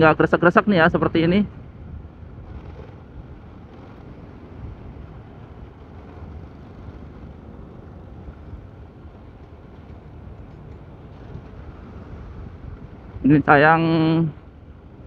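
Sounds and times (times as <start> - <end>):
scooter road noise: 0.0 - 15.0
wind rumble: 0.0 - 15.0.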